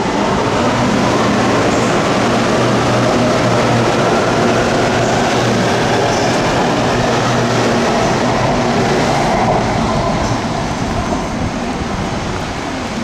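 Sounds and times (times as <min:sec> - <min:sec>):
wheel-on-rail noise: 0:00.0 - 0:13.0.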